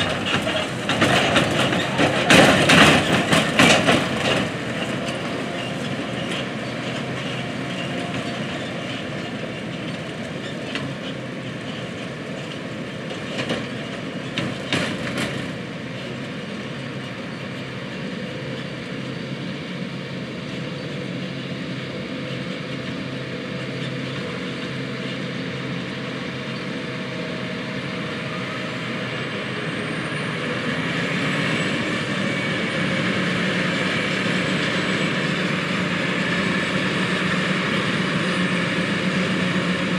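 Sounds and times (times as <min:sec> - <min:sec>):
harvester machinery drone: 0:00.0 - 0:39.9.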